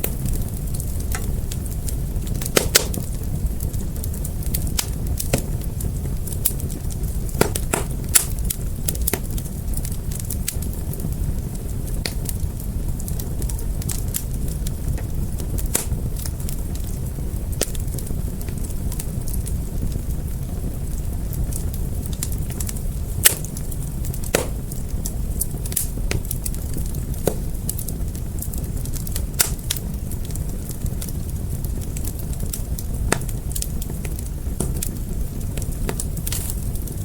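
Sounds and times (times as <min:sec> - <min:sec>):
fire crackles and pops: 0:00.0 - 0:37.0
low rumble of flames: 0:00.0 - 0:37.0.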